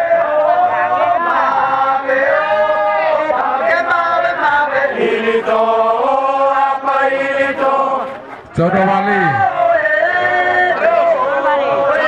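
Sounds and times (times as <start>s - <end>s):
men singing a ritual chant: 0.0s - 12.0s.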